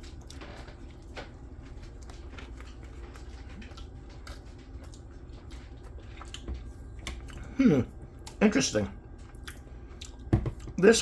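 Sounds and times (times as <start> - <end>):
person chewing food: 0.0 - 10.8
low room hum: 0.0 - 11.0.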